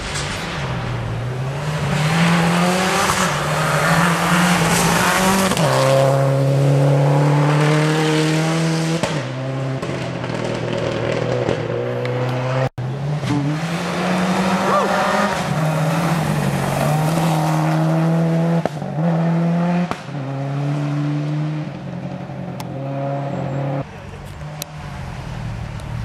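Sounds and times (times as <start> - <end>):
rally car engine at full throttle: 0.0 - 26.0.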